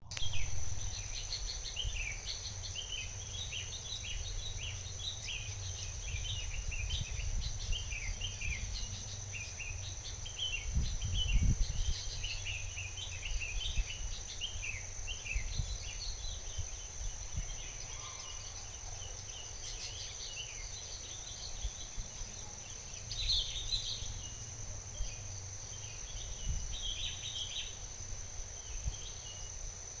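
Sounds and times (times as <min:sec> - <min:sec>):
insect trill: 0:00.0 - 0:30.0.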